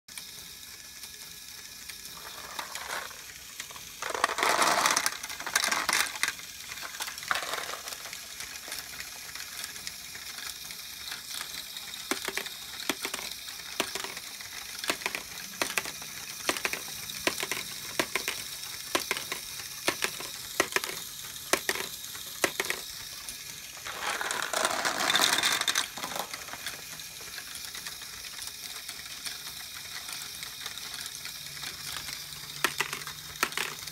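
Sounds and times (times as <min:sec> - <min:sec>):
plastic gears and arms clattering: 0:00.1 - 0:33.9
small plastic balls clicking: 0:00.2 - 0:33.9.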